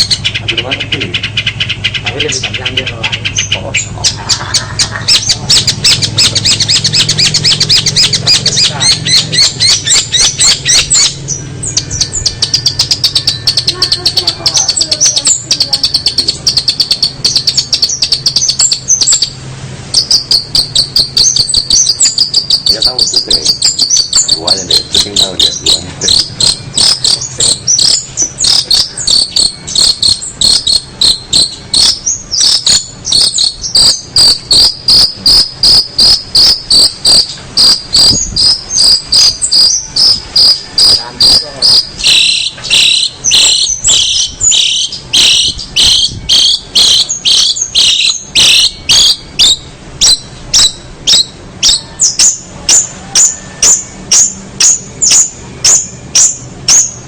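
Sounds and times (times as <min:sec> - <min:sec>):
high-pitched chirps: 0:00.0 - 0:57.0.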